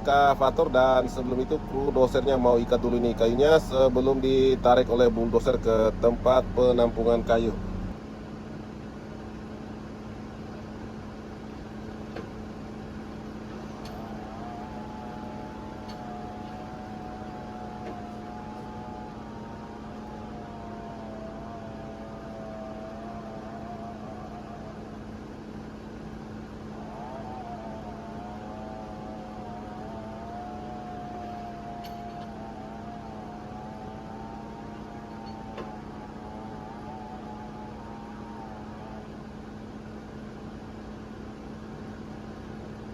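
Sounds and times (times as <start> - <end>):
wavering whine: 0.0 - 8.0, 9.2 - 42.9
diesel engine idling: 0.0 - 42.9.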